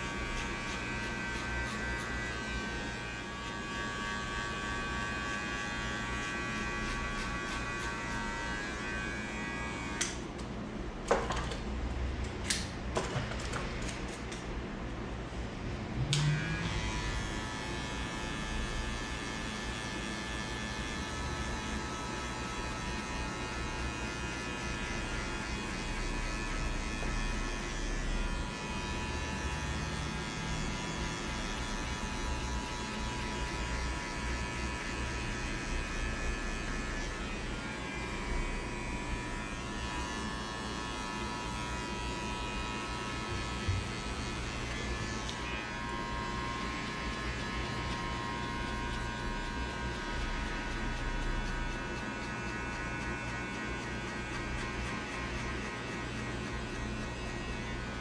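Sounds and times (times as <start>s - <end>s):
electric hair clippers buzzing: 0.0s - 11.6s, 16.0s - 58.0s.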